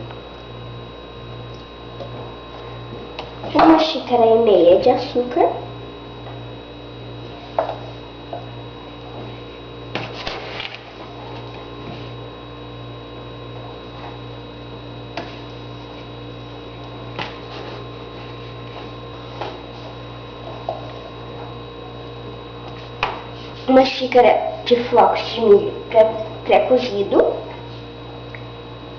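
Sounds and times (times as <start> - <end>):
steady electrical hum: 0.0 - 28.9.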